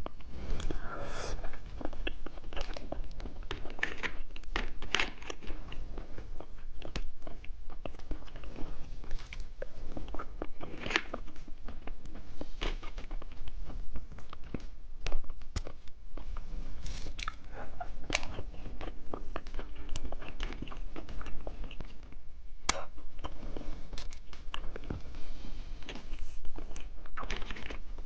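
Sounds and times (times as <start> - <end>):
chewing and crunching candy: 0.0 - 28.0.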